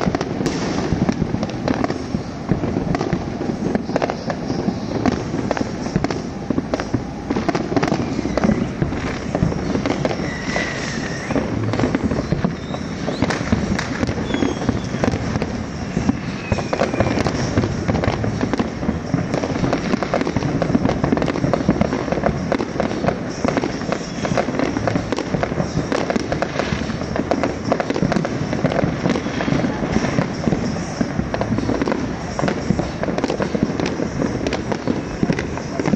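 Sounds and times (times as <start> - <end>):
fireworks popping and banging: 0.0 - 35.9
fireworks whistling: 0.0 - 35.9.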